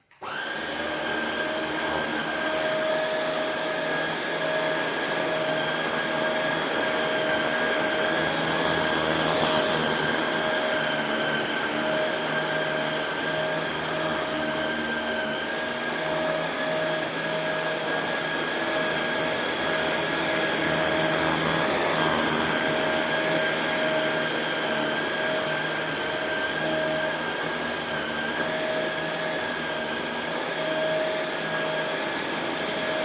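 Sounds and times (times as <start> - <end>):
vacuum cleaner motor whine: 0.0 - 33.0.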